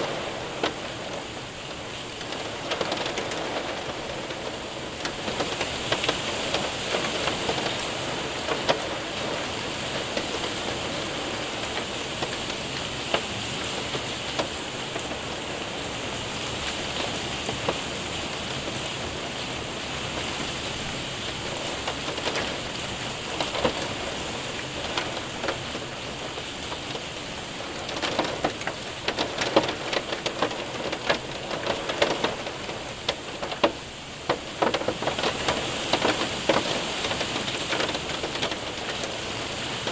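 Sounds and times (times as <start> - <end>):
hailstones ticking: 0.0 - 39.9
rain hissing: 0.0 - 39.9.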